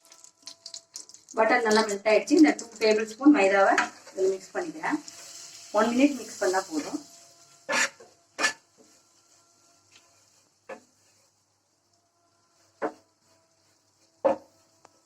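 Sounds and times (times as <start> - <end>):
spoon scraping and knocking pan: 0.1 - 9.2, 9.9 - 11.4, 12.6 - 15.0.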